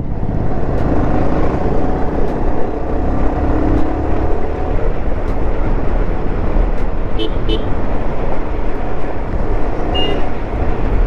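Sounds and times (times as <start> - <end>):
heavy wind rumble: 0.0 - 11.0.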